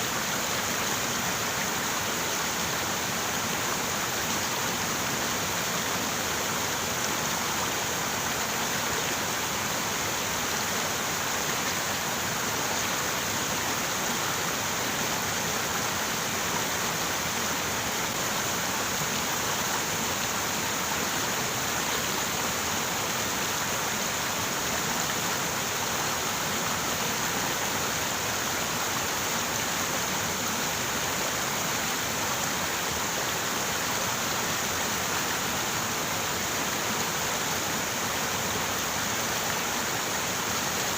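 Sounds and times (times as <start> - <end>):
river water running over rocks: 0.0 - 40.9.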